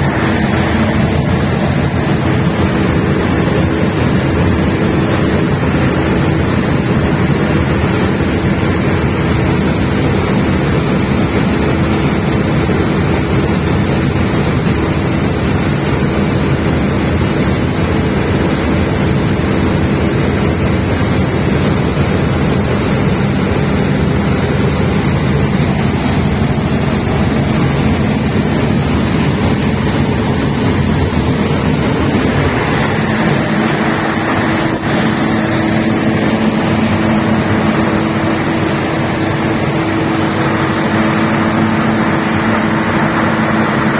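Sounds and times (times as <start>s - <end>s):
diesel generator running: 0.0s - 43.9s
high whine: 0.0s - 43.9s.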